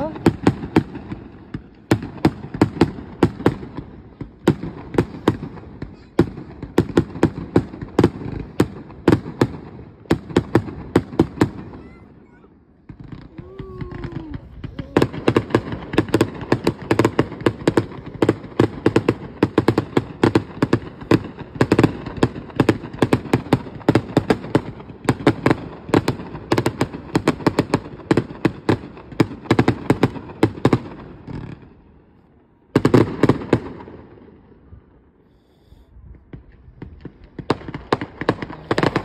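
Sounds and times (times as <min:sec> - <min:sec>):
fireworks bangs: 0:00.0 - 0:39.0.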